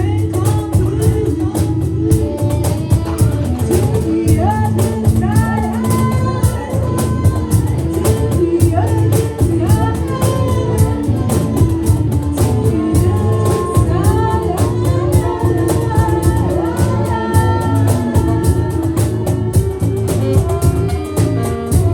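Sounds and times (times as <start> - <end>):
drum beat with cymbals: 0.0 - 21.9
heavy bass: 0.0 - 21.9.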